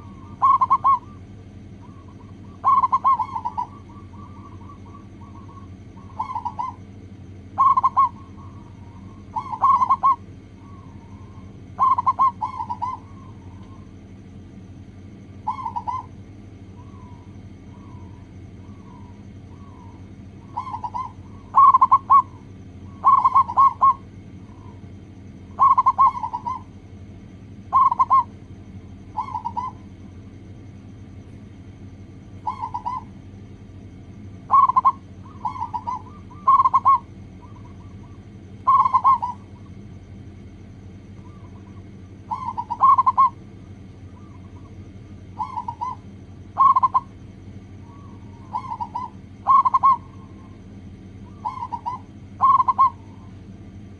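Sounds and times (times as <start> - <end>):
dove cooing: 0.0 - 53.9
steady low hum: 0.0 - 53.9.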